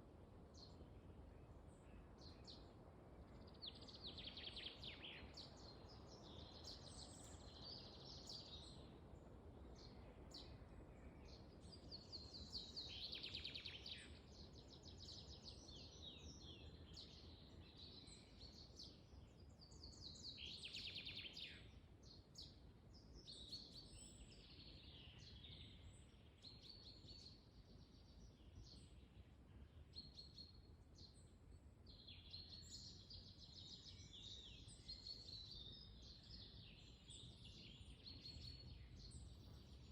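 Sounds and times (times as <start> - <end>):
songbirds singing: 0.4 - 39.9.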